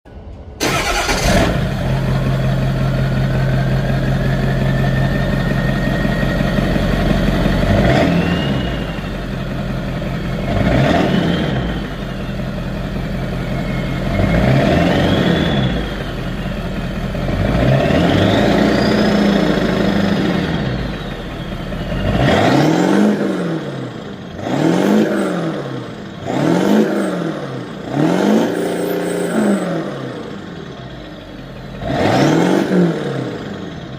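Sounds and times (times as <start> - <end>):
engine idling with whine: 0.1 - 33.9
engine revving: 0.6 - 33.9.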